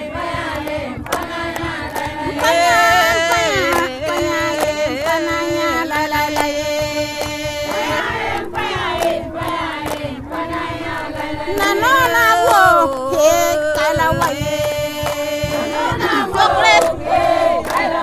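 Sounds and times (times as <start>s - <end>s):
sharp percussion strikes: 0.0s - 16.9s
voices chanting together: 0.0s - 18.0s.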